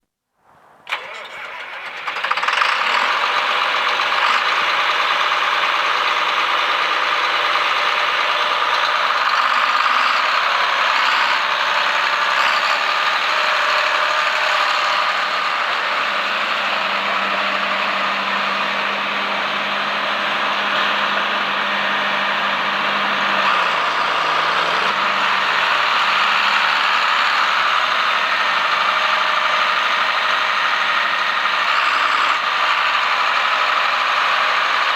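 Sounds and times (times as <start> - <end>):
tractor diesel engine running: 0.8 - 34.9.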